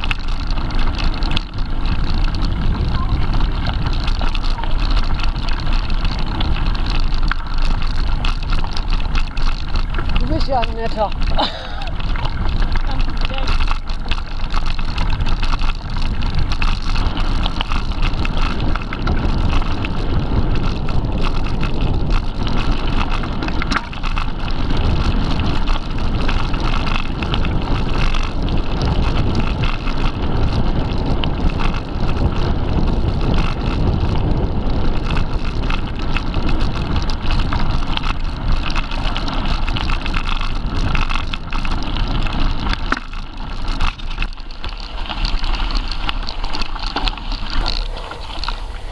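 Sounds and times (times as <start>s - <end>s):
bike rattling and clicking: 0.0s - 48.9s
tyres rumbling on dirt: 0.0s - 48.9s
wind buffeting microphone: 0.0s - 48.9s.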